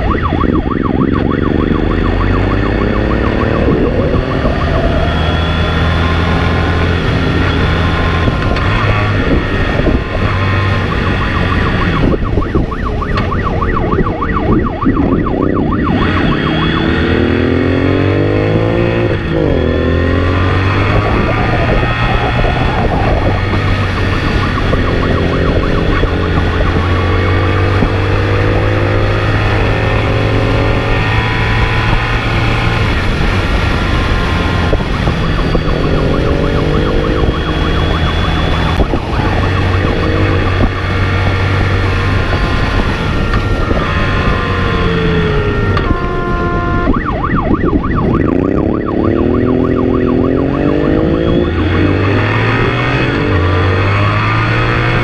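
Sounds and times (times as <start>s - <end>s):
car engine revving: 0.0s - 55.0s
emergency siren warbling: 0.0s - 55.0s.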